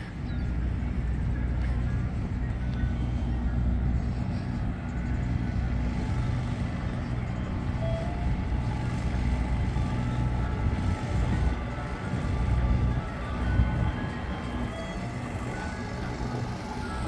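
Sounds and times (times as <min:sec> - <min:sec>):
large vehicle engine rumbling: 0:00.0 - 0:17.0.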